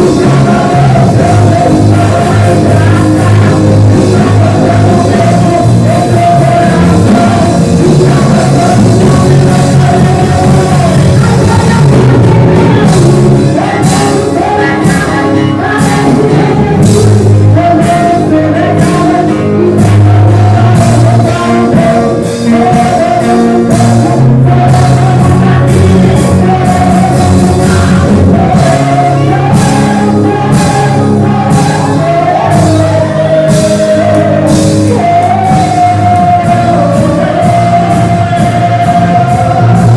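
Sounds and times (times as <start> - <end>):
steady drum beat: 0.0 - 39.9
worship band playing: 0.0 - 39.9.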